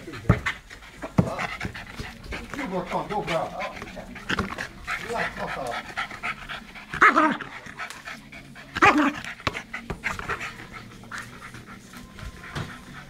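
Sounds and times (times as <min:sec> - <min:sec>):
small dog panting: 0:00.0 - 0:13.0.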